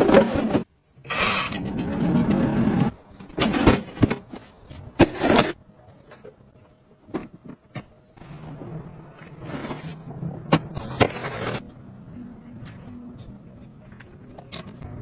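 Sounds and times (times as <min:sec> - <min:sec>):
faint steady hum: 0:00.0 - 0:15.0
rustling scrapes: 0:00.0 - 0:15.0.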